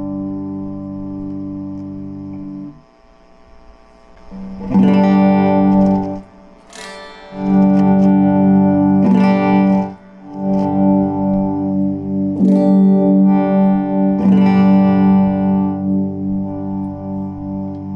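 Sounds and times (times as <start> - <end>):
electric guitar chords ringing: 0.0 - 17.9.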